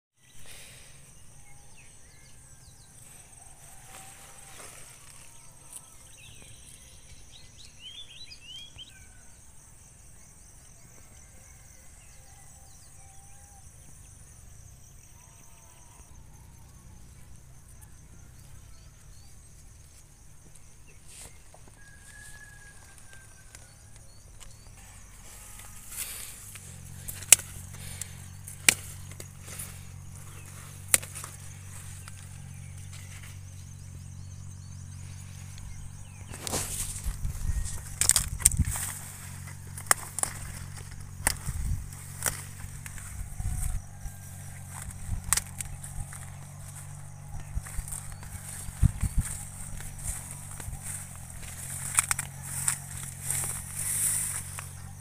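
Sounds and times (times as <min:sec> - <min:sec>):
insect trilling: 0:00.2 - 0:55.0.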